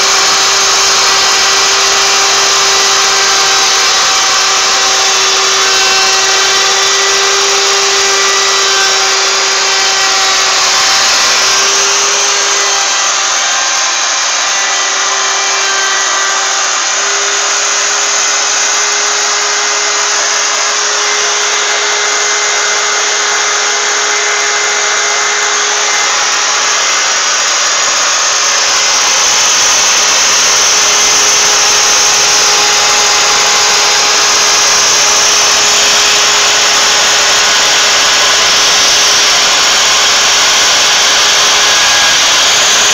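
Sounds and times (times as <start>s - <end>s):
router cutting wood: 0.0s - 42.9s
wood router whining: 0.0s - 42.9s.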